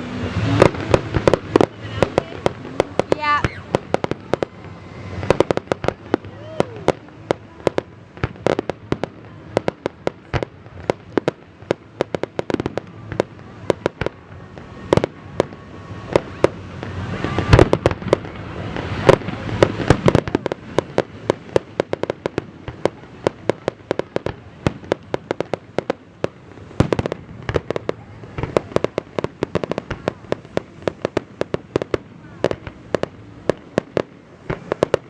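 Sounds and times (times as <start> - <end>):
fireworks banging and crackling: 0.0 - 35.0.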